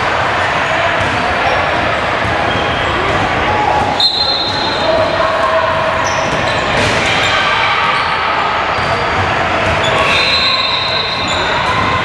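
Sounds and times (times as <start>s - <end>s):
din of voices in hall: 0.0s - 12.0s.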